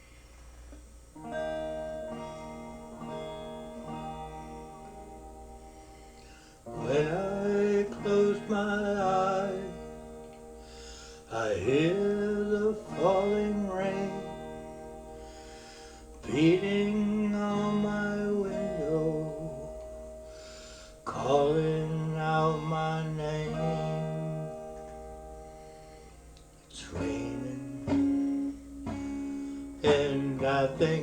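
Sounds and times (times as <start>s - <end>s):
strummed guitar chords: 0.0s - 31.0s
soft picked guitar notes: 0.8s - 31.0s.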